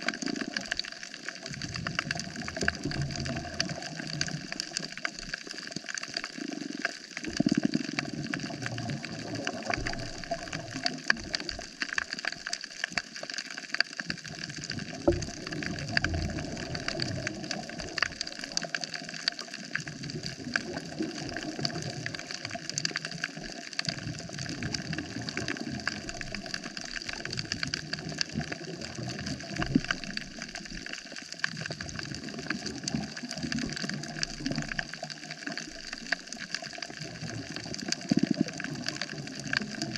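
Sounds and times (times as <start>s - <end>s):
low underwater rumble: 0.0s - 5.9s, 7.2s - 12.5s, 14.2s - 39.9s
reef crackle of clicks: 0.0s - 39.9s.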